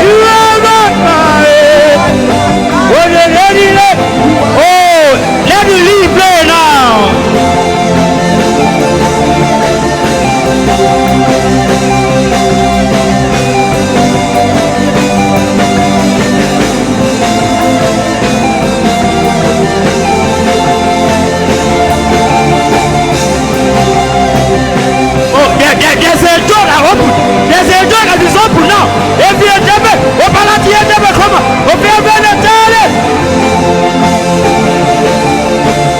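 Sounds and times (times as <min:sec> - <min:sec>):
drums: 0:00.0 - 0:35.9
guitar: 0:00.0 - 0:35.9
held chords: 0:00.0 - 0:35.9.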